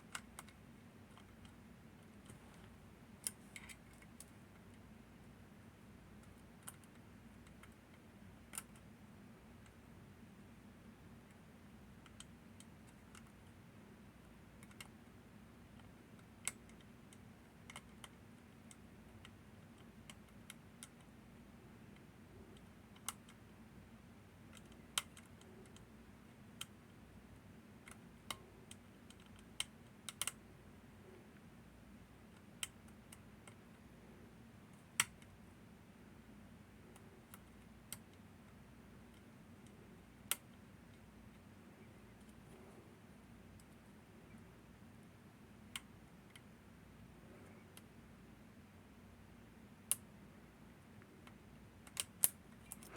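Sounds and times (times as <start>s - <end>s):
faint low hum: 0.0s - 52.9s.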